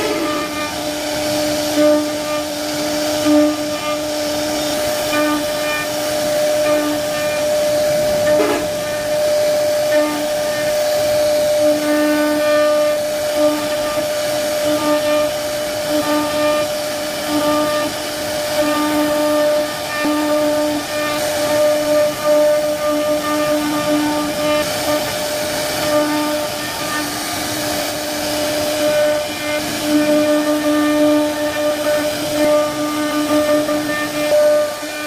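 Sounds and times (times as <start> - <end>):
continuous hiss: 0.0 - 35.0
lower motor tone: 0.0 - 35.0
wood router high whine: 0.0 - 35.0.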